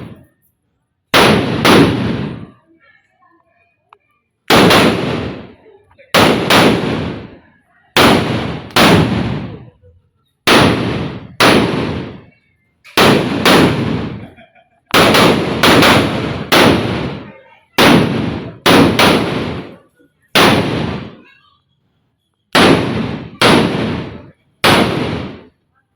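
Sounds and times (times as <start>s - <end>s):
firecrackers banging: 0.0s - 0.5s, 1.1s - 2.8s, 4.5s - 21.5s, 22.5s - 25.6s.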